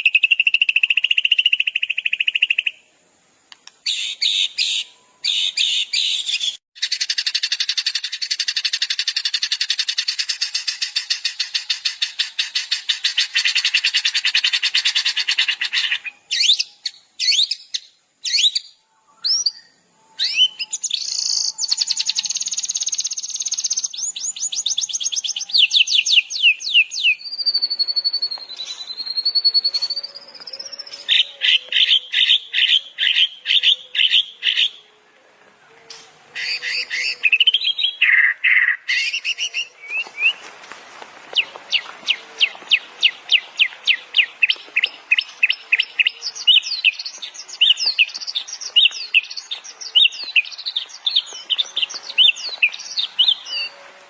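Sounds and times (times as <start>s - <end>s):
songbirds singing: 0.0s - 40.5s, 41.3s - 54.0s.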